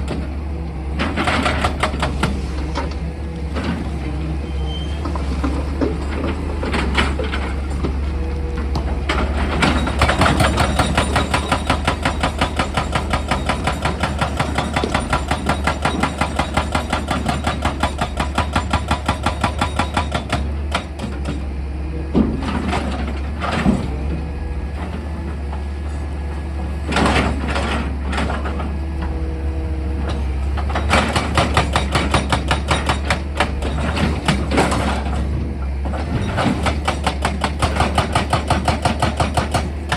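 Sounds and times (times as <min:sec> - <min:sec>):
hydraulic breaker hammering rock: 0:00.0 - 0:04.0, 0:05.2 - 0:39.9
diesel engine drone: 0:00.0 - 0:37.9.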